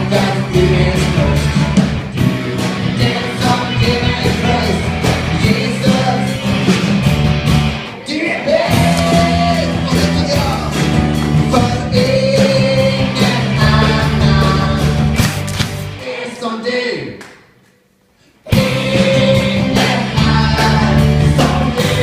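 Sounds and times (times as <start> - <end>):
live rock band with singing: 0.0 - 16.4, 18.2 - 22.0.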